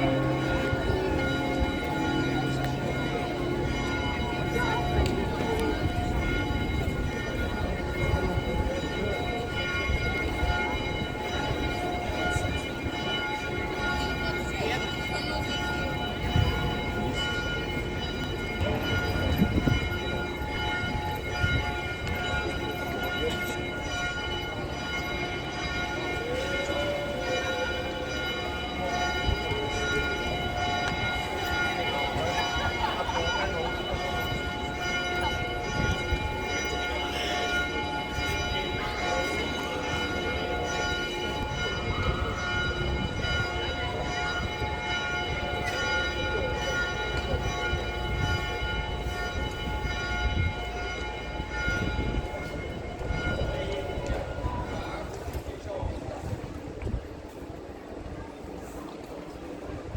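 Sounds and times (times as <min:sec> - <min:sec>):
church bells ringing: 0:00.0 - 0:59.8
low street rumble: 0:00.0 - 0:59.9
murmur of people: 0:00.0 - 0:59.9.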